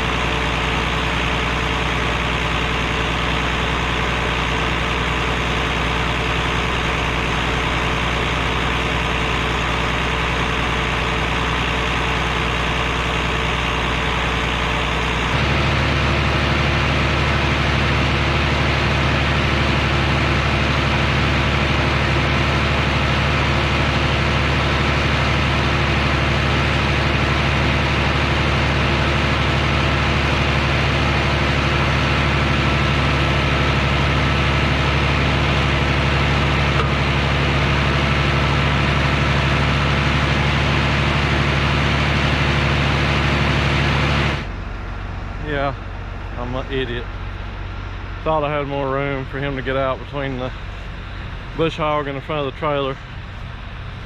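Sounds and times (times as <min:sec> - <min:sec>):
heavy vehicle engine idling: 0:00.0 - 0:54.0.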